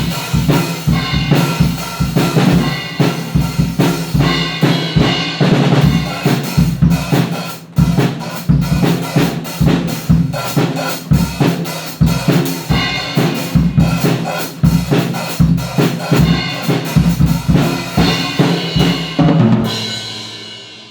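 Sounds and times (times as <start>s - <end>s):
drum kit playing fast: 0.0s - 20.9s.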